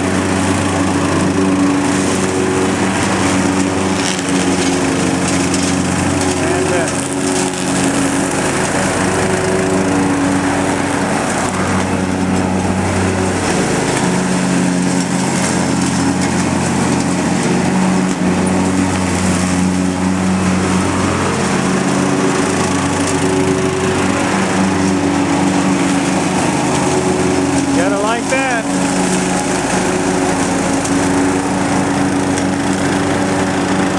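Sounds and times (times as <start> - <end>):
lawn mower engine running: 0.0 - 33.9
leaves being shredded: 0.0 - 33.9.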